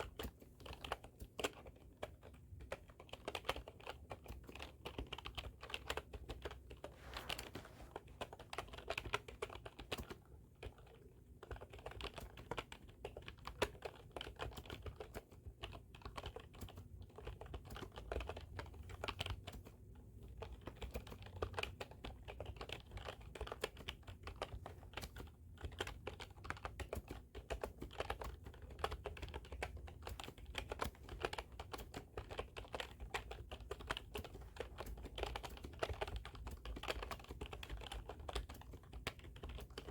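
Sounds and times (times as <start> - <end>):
keyboard typing: 0.0 - 19.6, 20.3 - 39.9.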